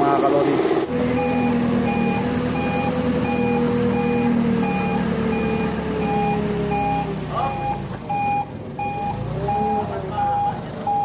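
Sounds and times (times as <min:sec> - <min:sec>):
engine humming: 0:00.0 - 0:11.0
reversing alarm beeping: 0:01.0 - 0:11.0.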